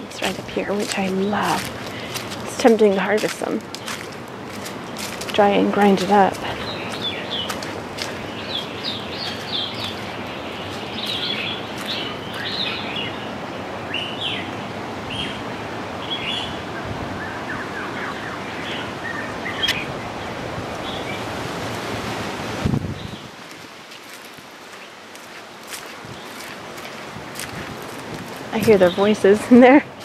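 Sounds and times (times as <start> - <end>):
wild birds calling: 0.0 - 21.4, 23.0 - 30.0.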